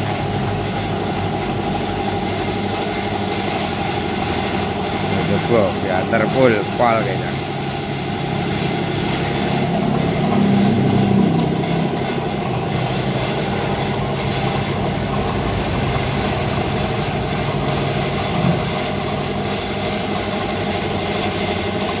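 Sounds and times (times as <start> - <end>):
motor hum: 0.0 - 22.0.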